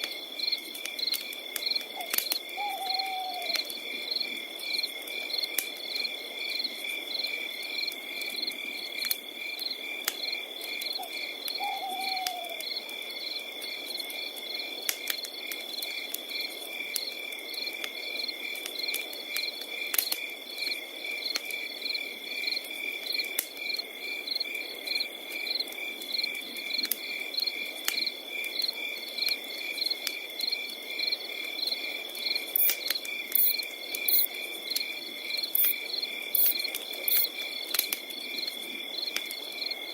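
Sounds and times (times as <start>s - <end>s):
fire crackling and popping: 0.0s - 2.6s, 3.5s - 11.6s, 12.2s - 39.5s
crickets trilling and chirping: 0.0s - 39.9s.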